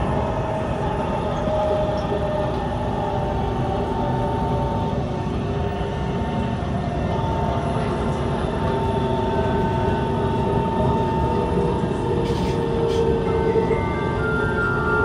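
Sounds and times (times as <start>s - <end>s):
steady whine: 0.0s - 15.0s
train wheels rumbling on rail: 0.0s - 15.0s.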